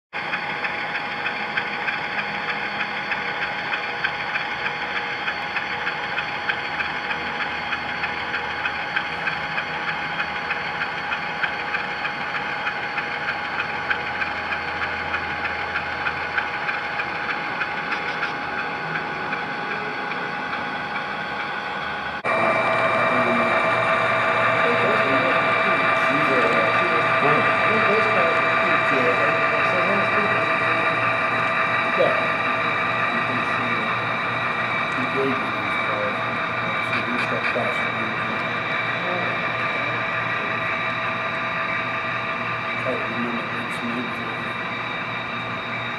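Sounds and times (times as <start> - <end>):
model locomotive engine drone: 0.2 - 45.9.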